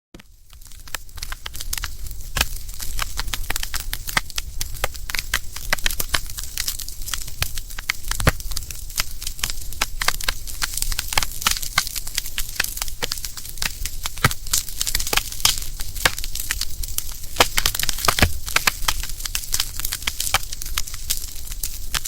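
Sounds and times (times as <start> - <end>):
firewood crackling and popping: 0.2 - 22.0.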